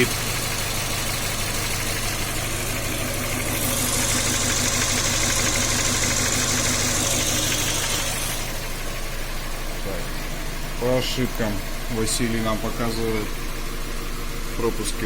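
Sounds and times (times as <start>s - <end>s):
engine idling roughly with misfire: 0.0s - 15.0s.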